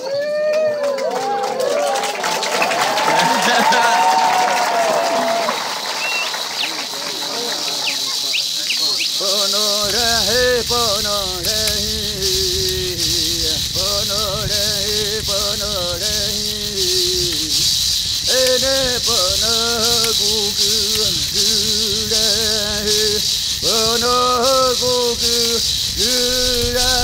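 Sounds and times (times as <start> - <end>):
voices chanting: 0.7 - 27.0
gourd rattle shaken: 2.7 - 27.0.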